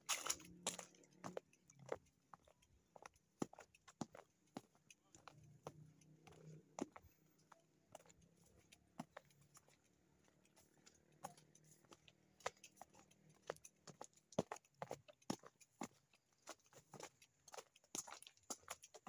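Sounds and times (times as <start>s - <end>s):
faint footsteps on gravel: 0.0s - 19.0s.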